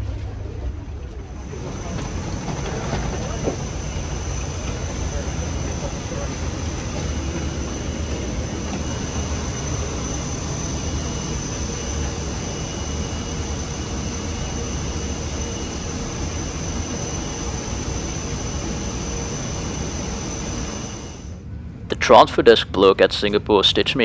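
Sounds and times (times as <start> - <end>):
jet turbine roaring: 1.2 - 22.6.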